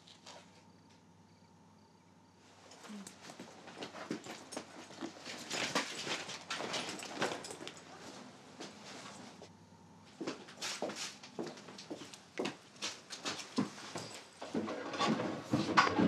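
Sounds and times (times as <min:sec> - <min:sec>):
clothes and bags rustling: 0:02.5 - 0:09.5, 0:10.1 - 0:16.0.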